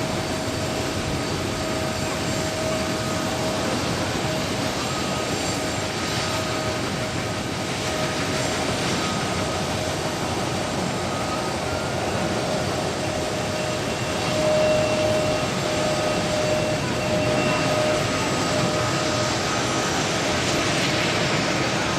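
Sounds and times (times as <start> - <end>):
jet engine whine: 0.0 - 21.9
jet engines roaring: 0.0 - 21.9.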